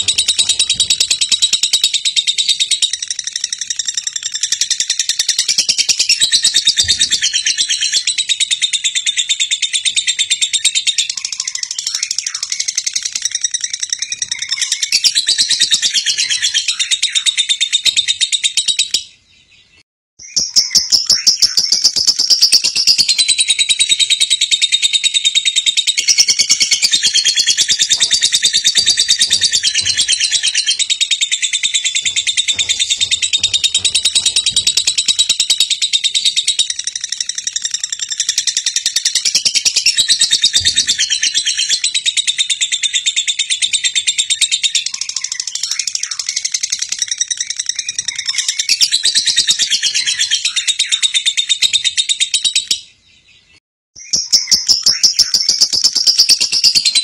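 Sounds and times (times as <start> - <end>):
birds chirping in chorus: 0.0 - 55.7.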